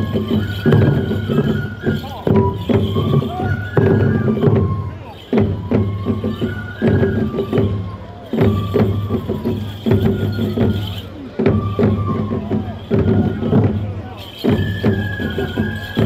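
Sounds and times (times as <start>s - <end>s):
sliding bamboo flute notes: 0.0s - 16.0s
taiko drum strokes: 0.0s - 16.0s.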